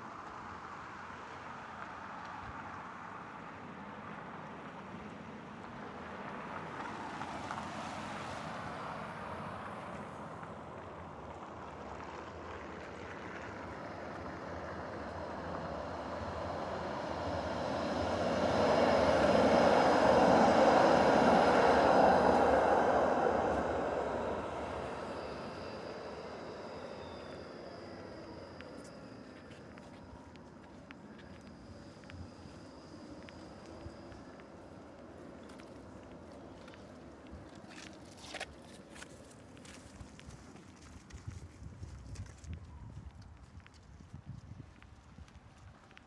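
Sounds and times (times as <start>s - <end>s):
faint high whine: 8.5s - 46.0s.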